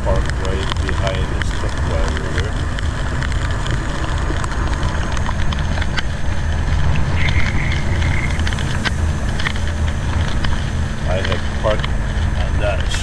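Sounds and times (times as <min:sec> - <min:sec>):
diesel engine rumbling: 0:00.0 - 0:13.0
ticks and clicks: 0:00.0 - 0:13.0.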